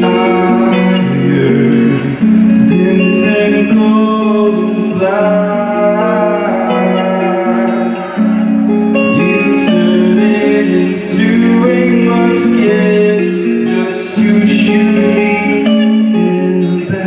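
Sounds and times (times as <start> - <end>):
guitar accompaniment: 0.0 - 17.0
person singing with vibrato: 0.0 - 17.0.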